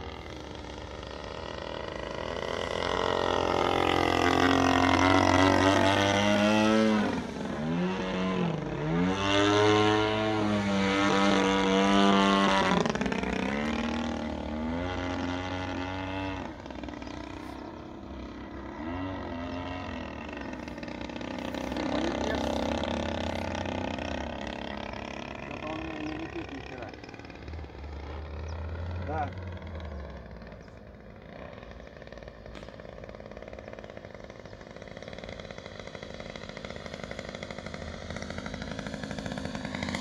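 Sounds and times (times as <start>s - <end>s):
model airplane motor droning: 0.0s - 40.0s.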